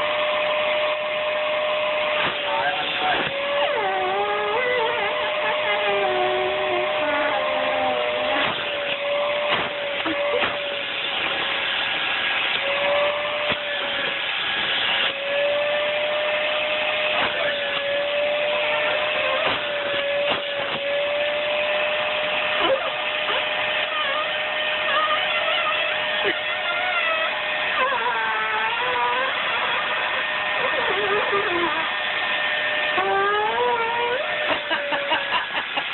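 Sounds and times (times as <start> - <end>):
vacuum cleaner whining: 0.0 - 35.9.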